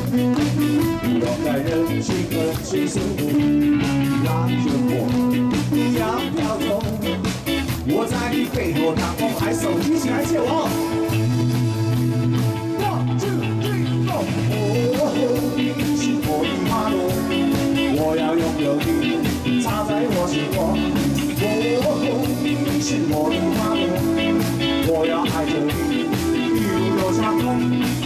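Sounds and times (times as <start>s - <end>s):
drum kit steady beat: 0.0s - 28.0s
electric guitars: 0.0s - 28.0s.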